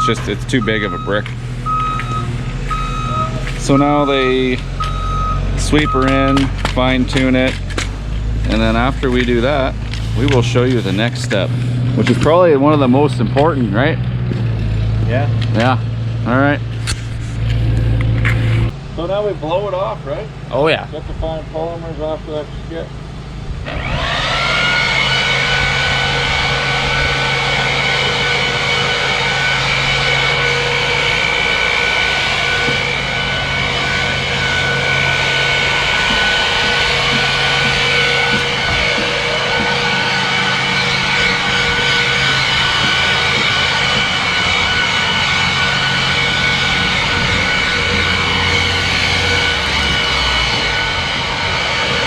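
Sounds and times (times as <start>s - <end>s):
leaf blower whining: 0.0s - 20.8s, 22.8s - 52.0s.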